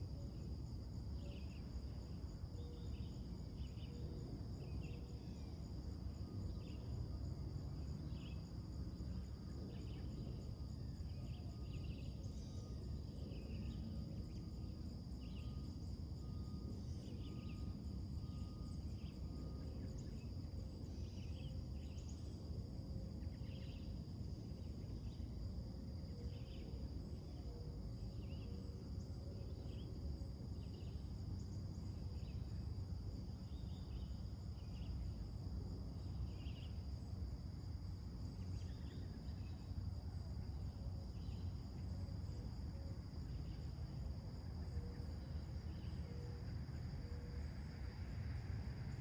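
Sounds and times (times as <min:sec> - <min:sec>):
insect drone: 0:00.0 - 0:49.0.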